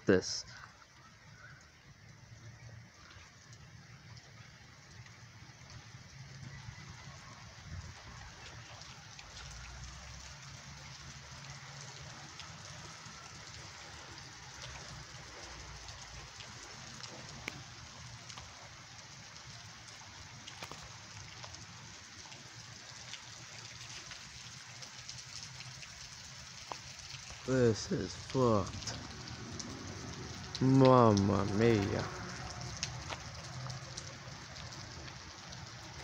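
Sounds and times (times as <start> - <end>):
raindrops ticking close by: 0.0 - 36.0
steady rain falling: 0.0 - 36.0.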